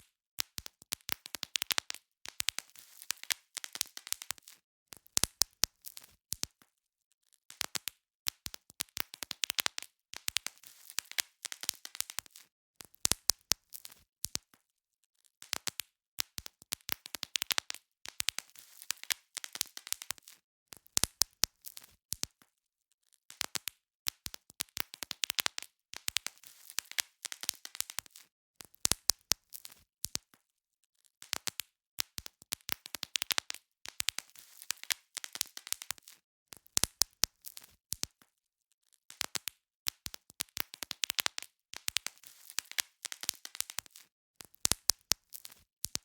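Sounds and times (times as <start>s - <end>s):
bubble wrap popping: 0.0s - 6.7s, 7.4s - 14.6s, 15.4s - 22.4s, 23.3s - 30.4s, 31.2s - 38.3s, 39.0s - 46.0s.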